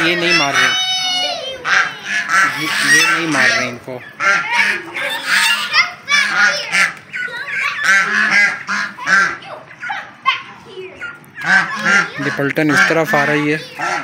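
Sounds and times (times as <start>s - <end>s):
geese honking: 0.0s - 14.0s.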